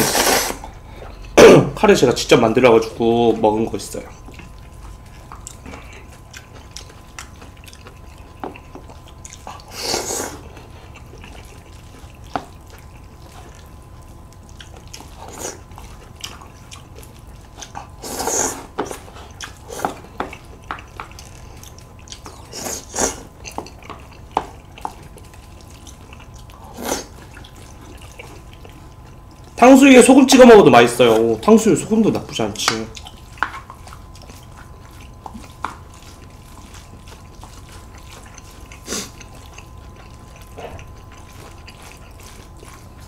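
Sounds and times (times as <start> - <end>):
noodles slurped: 0.0 - 0.8, 3.4 - 20.2, 21.2 - 43.0
soft chewing: 0.2 - 1.4, 2.1 - 43.0.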